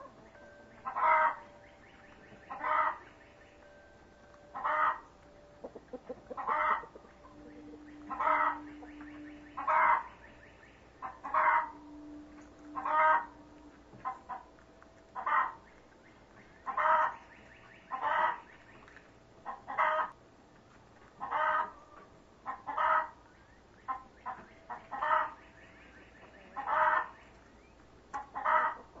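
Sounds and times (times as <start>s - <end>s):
chicken calling: 0.0s - 3.7s, 4.5s - 20.2s, 21.2s - 23.2s, 23.8s - 27.4s, 28.1s - 29.0s.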